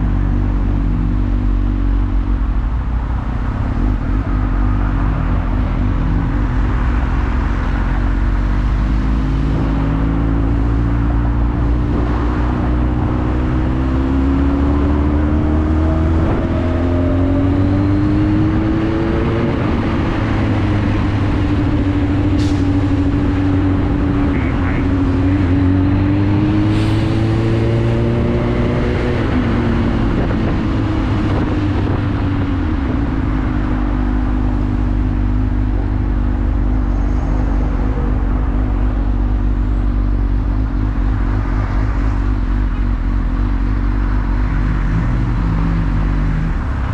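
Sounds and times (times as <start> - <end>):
wind and road noise: 0.0 - 46.9.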